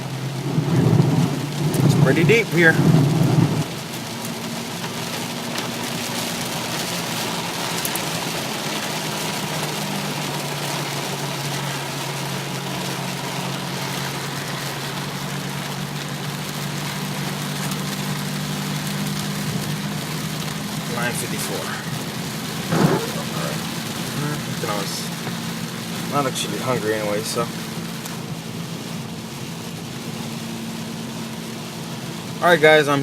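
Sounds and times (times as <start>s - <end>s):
car engine hum: 0.0s - 33.0s
heavy rain on car: 0.0s - 33.0s.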